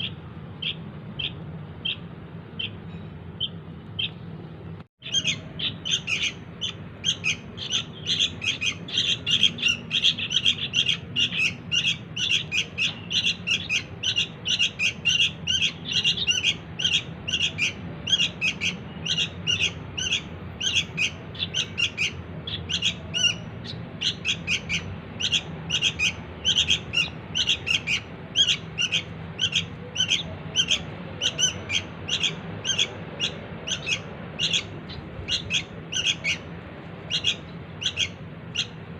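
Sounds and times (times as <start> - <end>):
bird chick chirping: 0.0 - 4.2, 5.0 - 38.8.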